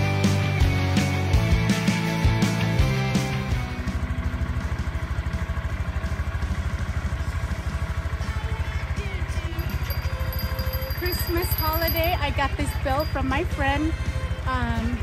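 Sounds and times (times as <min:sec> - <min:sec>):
motorcycle engine idling: 0:00.0 - 0:15.0
music: 0:00.0 - 0:15.0.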